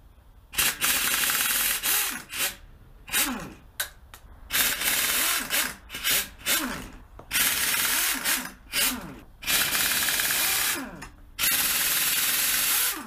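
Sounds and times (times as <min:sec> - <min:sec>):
pneumatic impact wrench bursts: 0:00.5 - 0:03.6, 0:04.5 - 0:13.0.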